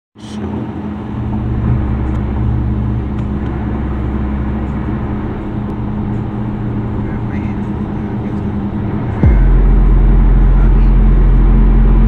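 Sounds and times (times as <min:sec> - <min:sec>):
car engine hum: 0:00.2 - 0:12.0
road and tyre noise: 0:00.2 - 0:12.0.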